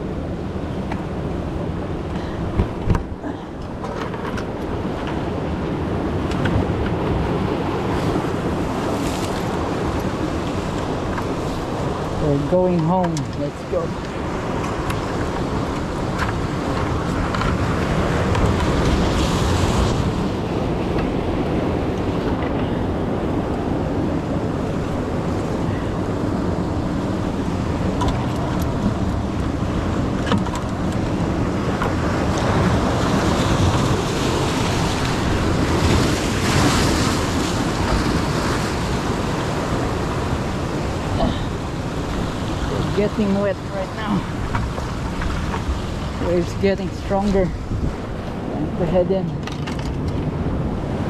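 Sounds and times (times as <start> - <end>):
ocean waves breaking: 0.0 - 51.0
wind on the microphone: 0.0 - 51.0.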